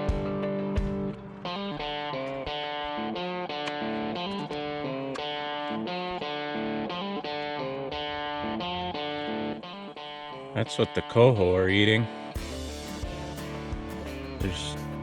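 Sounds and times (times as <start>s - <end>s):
electric guitar music: 0.0s - 15.0s.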